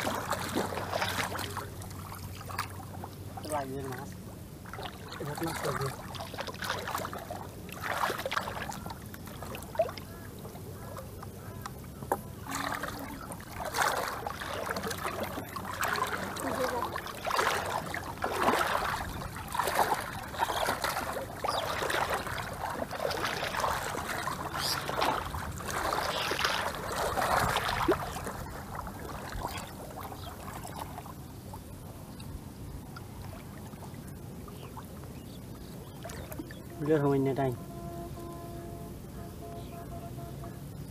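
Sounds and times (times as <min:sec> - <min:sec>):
water sloshing and splashing: 0:00.0 - 0:40.9.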